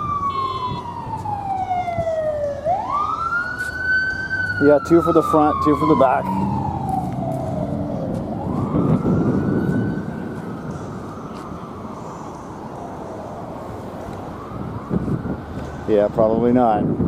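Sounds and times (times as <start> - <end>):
emergency siren wailing: 0.0 - 17.0
traffic rumble: 0.0 - 17.0.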